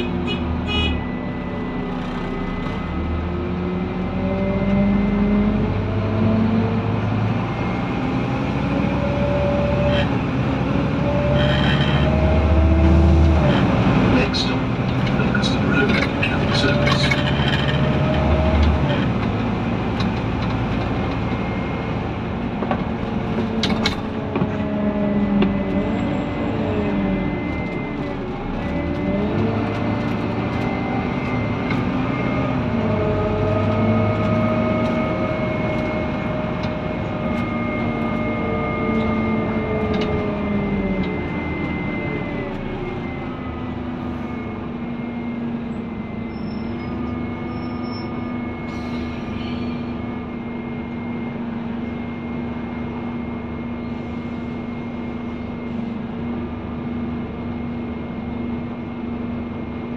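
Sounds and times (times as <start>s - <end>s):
bus diesel engine: 0.0s - 59.9s
road noise: 0.0s - 59.9s.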